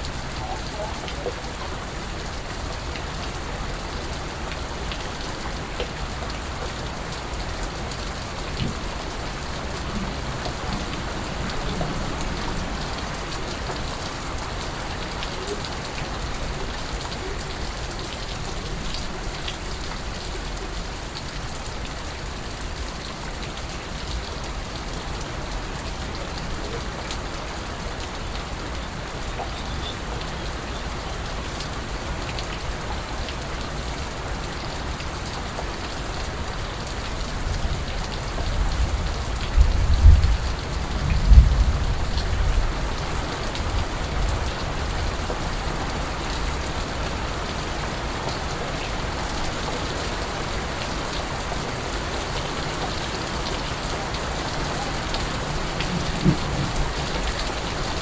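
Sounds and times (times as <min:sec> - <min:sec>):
steady rain: 0:00.0 - 0:58.0
water drips on surfaces: 0:00.0 - 0:58.0.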